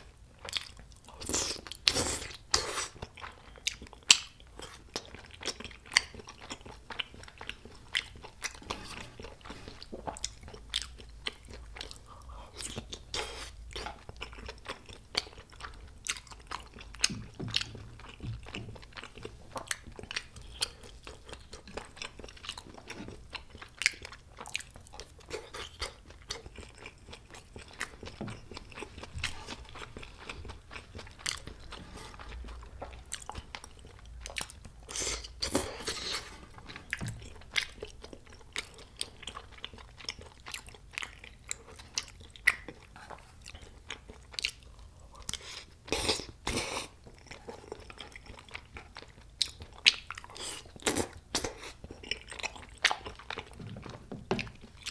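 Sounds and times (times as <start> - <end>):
person chewing crunchily: 0.0 - 54.9.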